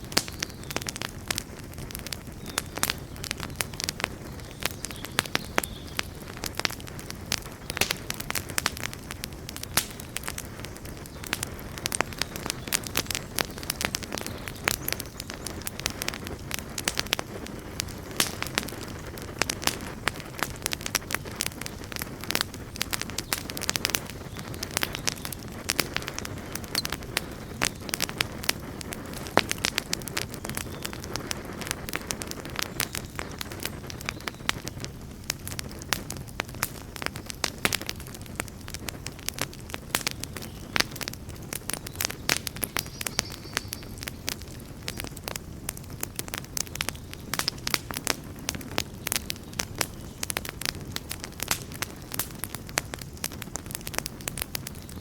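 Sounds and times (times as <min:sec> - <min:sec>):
campfire crackling and popping: 0:00.0 - 0:55.0
low rush of flames: 0:00.0 - 0:55.0.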